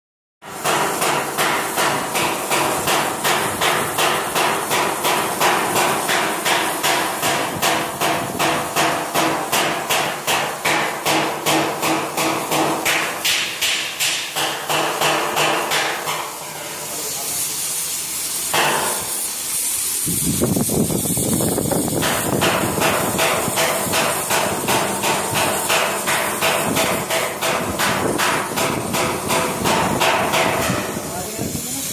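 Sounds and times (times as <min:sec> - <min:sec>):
hammer striking metal: 0:00.4 - 0:16.9, 0:18.4 - 0:19.3, 0:22.0 - 0:31.2
welding hiss: 0:00.4 - 0:31.9.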